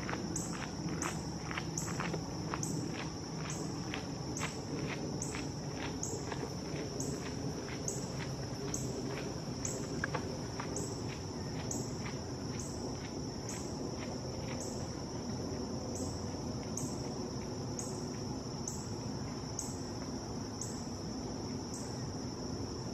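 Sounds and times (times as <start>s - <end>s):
insect chorus drone: 0.0s - 22.9s.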